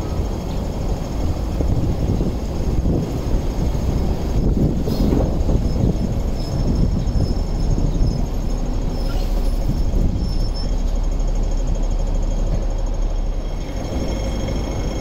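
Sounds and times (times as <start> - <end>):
electric tram rumbling: 0.0 - 15.0.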